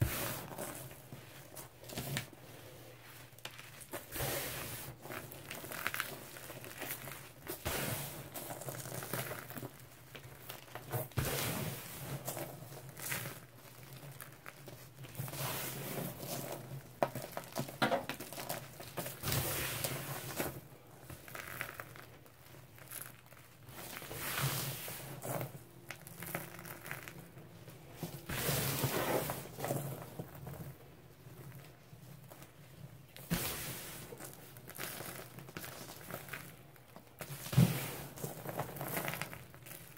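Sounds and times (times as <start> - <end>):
powder pouring and rustling: 0.0 - 39.9.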